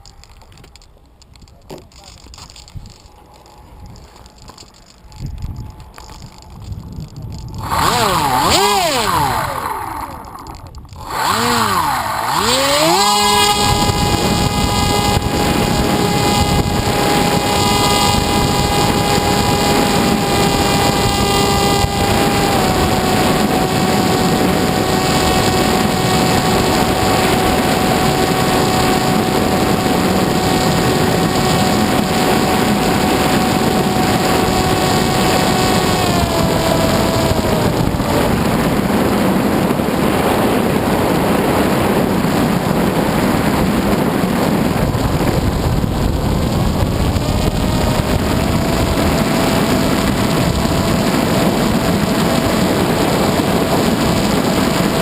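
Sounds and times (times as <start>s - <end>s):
model aircraft motor whining: 0.0s - 55.0s.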